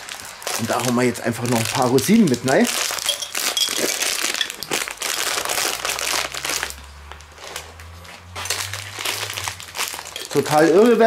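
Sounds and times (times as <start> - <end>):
plastic bag crackling rustle: 0.0 - 11.0.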